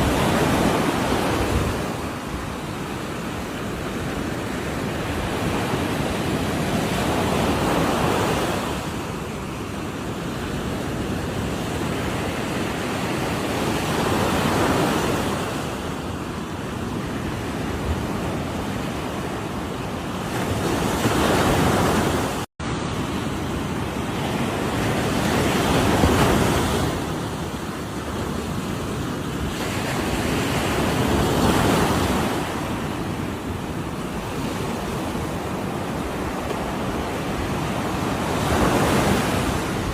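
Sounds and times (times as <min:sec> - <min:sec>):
ocean waves crashing: 0:00.0 - 0:39.9.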